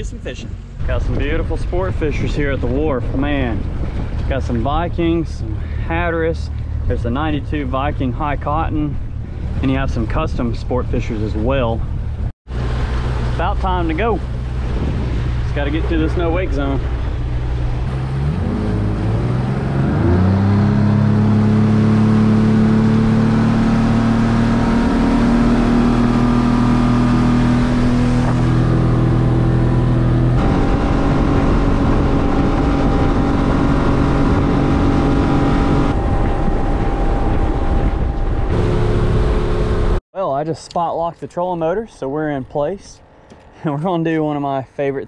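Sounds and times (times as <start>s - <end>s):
hull and wind noise: 0.0s - 40.0s
outboard motor accelerating: 0.8s - 40.0s.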